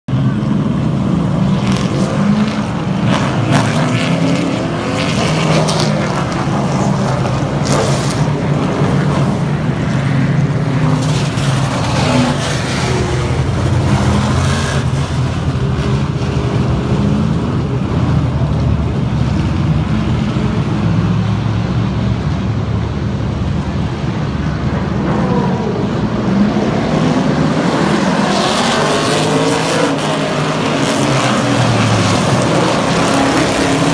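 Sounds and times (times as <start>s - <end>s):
racing truck engines revving: 0.1s - 33.9s.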